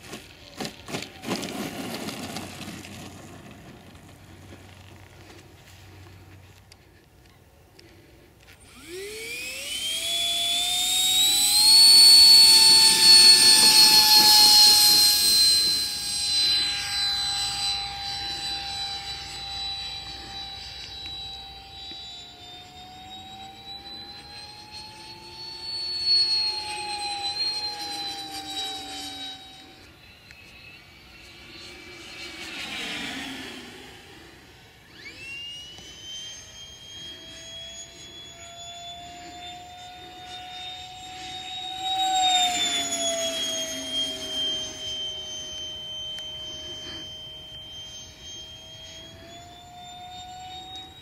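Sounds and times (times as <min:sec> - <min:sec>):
model jet fan whine: 0:00.0 - 0:51.0.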